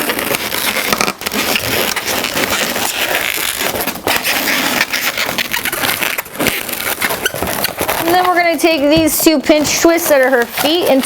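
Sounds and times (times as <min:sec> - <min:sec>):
balloons squeaking and rubbing: 0:00.0 - 0:11.0.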